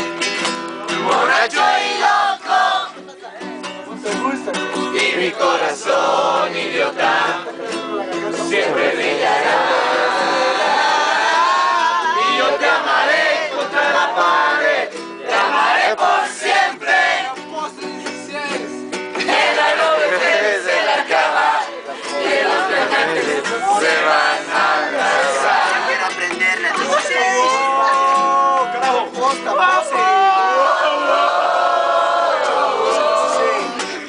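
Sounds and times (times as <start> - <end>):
strummed string instrument: 0.0 - 29.9, 32.2 - 34.0
group singing and shouting: 0.9 - 3.2, 4.7 - 34.0.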